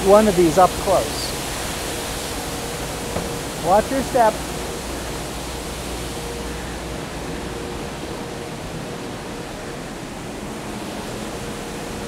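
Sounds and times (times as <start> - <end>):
faint steady hum: 0.0 - 12.0
rice polishing machines running: 0.0 - 12.0.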